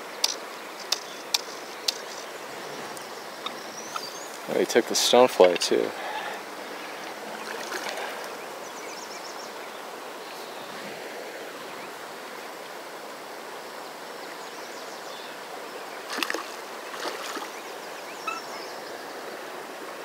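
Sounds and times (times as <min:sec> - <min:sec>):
river water rushing: 0:00.0 - 0:14.5, 0:15.2 - 0:20.0.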